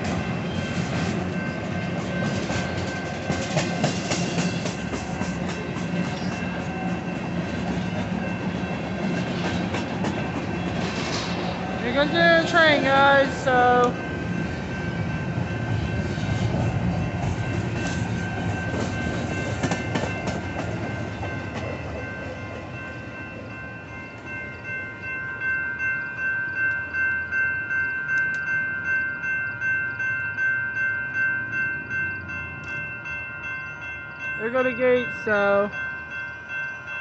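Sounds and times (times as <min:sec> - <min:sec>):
freight train rolling past: 0:00.0 - 0:37.0
railroad crossing bell ringing: 0:00.0 - 0:37.0.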